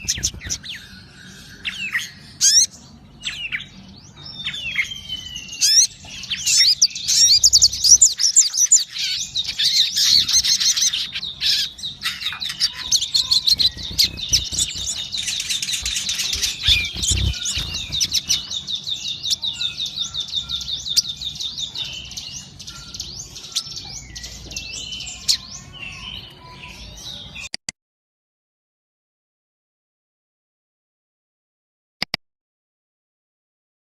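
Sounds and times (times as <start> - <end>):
songbird chirps and trills: 0.0 - 27.6.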